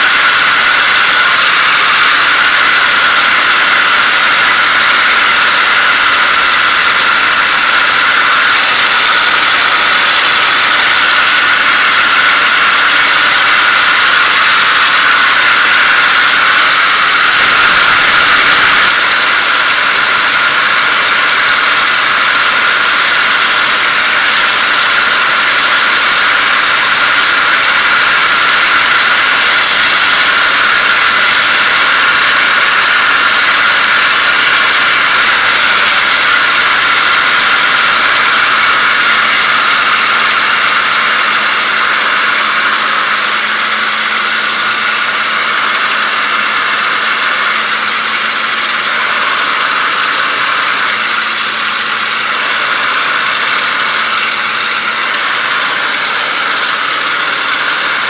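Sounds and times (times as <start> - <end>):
aircraft engine with high whine: 0.0 - 58.0.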